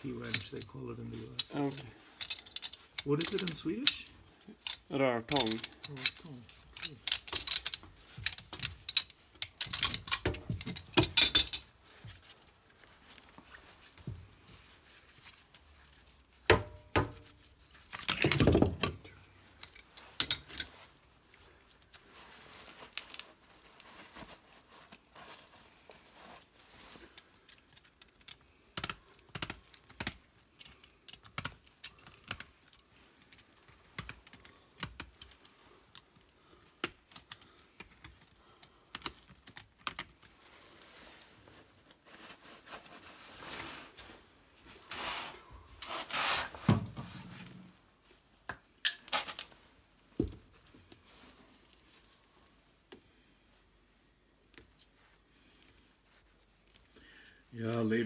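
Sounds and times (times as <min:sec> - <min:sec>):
rustling and scraping: 0:00.0 - 0:28.6, 0:29.6 - 0:57.0.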